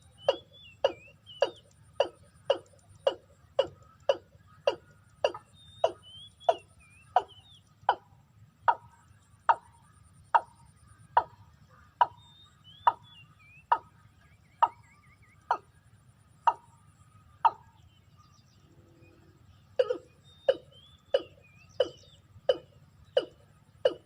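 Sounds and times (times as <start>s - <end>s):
watercock calling: 0.0s - 14.0s, 14.6s - 15.7s, 16.5s - 16.8s, 17.4s - 17.8s, 19.8s - 24.0s.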